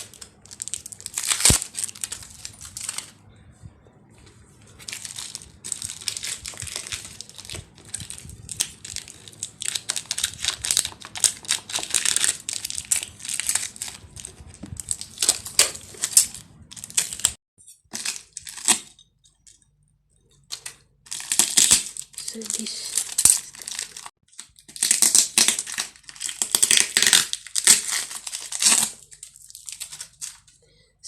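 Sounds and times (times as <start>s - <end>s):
plastic packaging crinkling and tearing: 0.0s - 3.2s, 4.7s - 19.0s, 20.5s - 30.6s.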